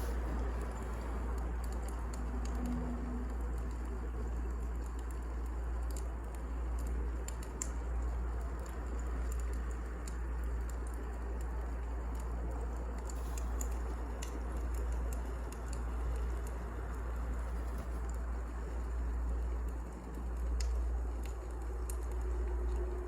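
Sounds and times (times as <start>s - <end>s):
wood fire burning: 0.0s - 23.0s.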